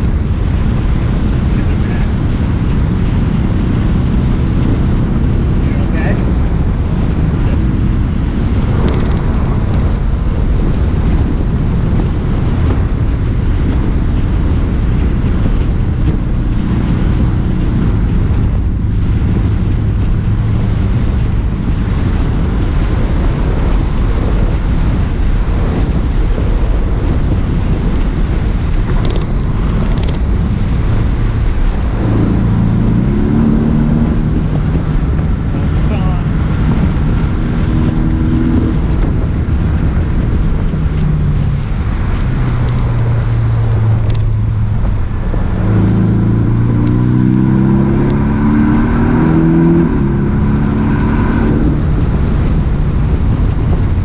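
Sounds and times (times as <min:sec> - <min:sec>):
car engine pulling: 0:00.0 - 0:54.0
wind and road noise: 0:00.0 - 0:54.0.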